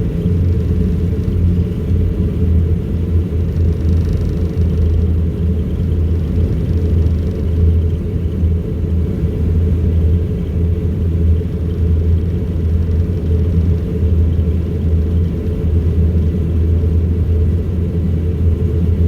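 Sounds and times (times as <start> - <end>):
turboprop engines droning in cabin: 0.0 - 19.0.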